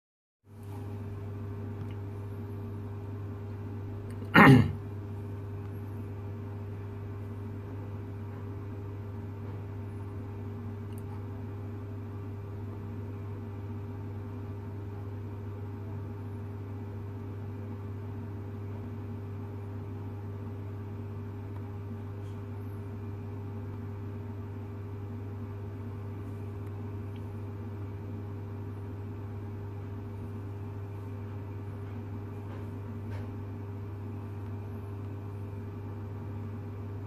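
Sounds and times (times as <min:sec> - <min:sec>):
low electrical hum: 0:00.5 - 0:37.0.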